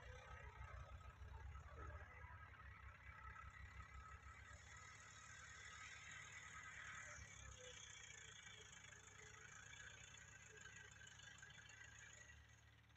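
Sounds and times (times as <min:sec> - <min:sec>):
distant tractor diesel engine: 0:00.0 - 0:12.9.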